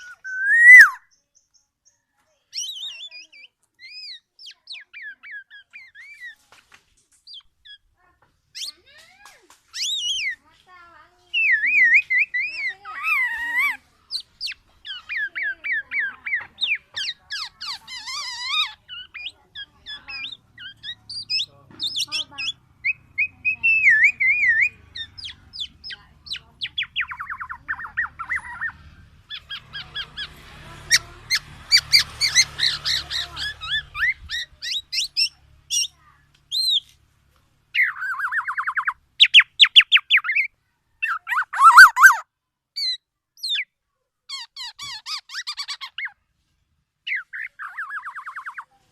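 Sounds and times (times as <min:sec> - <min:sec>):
bird singing and calling: 0:00.0 - 0:06.5, 0:08.5 - 0:10.6, 0:11.2 - 0:37.0, 0:37.7 - 0:42.2, 0:42.8 - 0:43.7, 0:44.3 - 0:46.2, 0:47.1 - 0:48.8.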